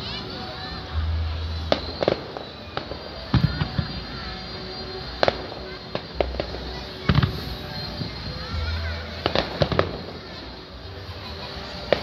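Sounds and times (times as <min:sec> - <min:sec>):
fireworks bangs: 0:00.0 - 0:10.6, 0:11.6 - 0:12.0.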